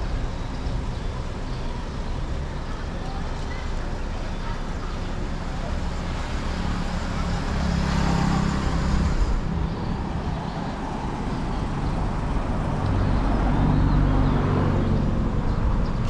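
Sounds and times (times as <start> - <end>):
steady traffic noise: 0.0 - 16.0
vehicle engine hum: 0.0 - 16.0.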